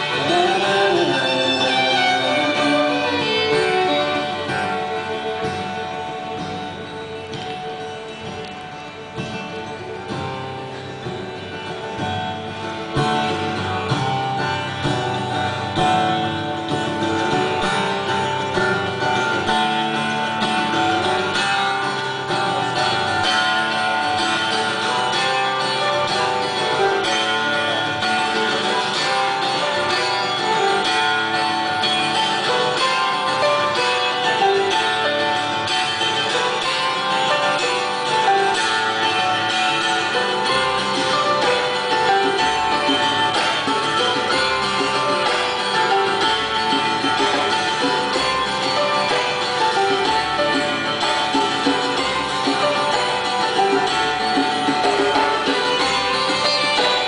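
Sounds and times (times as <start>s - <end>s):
live band guitar music: 0.0s - 57.0s.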